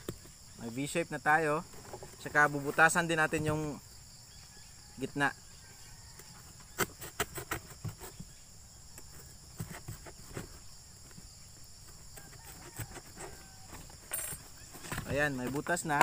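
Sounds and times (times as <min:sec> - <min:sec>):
insect chirring: 0:00.0 - 0:16.0.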